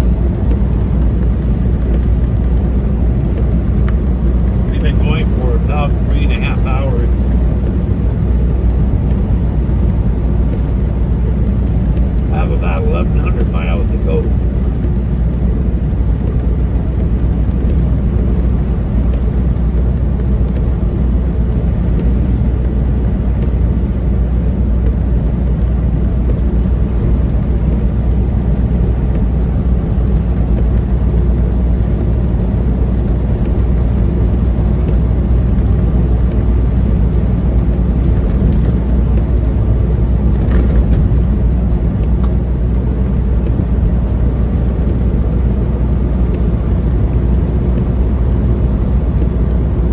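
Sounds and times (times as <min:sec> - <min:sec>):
truck engine and tyre drone: 0:00.0 - 0:49.9.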